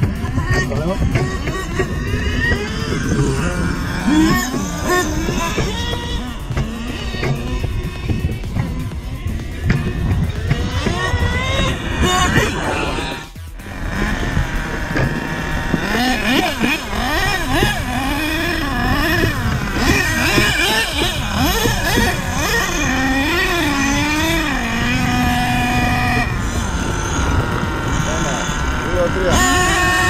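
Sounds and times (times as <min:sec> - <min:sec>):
radio-controlled car motors whining: 0:00.0 - 0:30.0.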